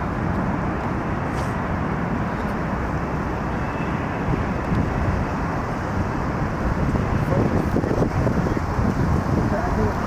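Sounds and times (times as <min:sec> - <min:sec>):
vehicle rumble: 0:00.0 - 0:10.0.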